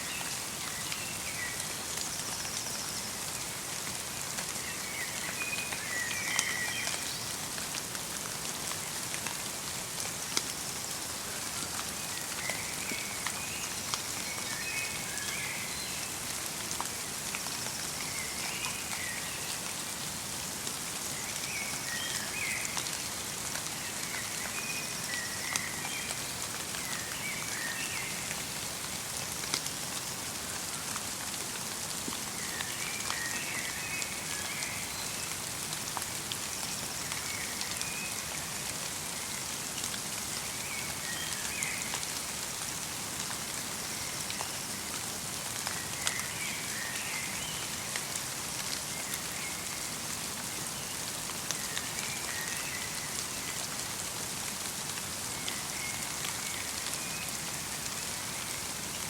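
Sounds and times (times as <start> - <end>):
light rain on forest: 0.0 - 59.0.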